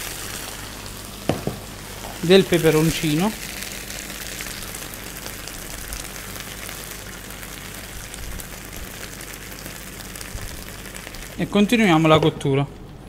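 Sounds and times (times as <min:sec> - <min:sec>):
seafood sizzling in a frying pan: 0:00.0 - 0:12.1.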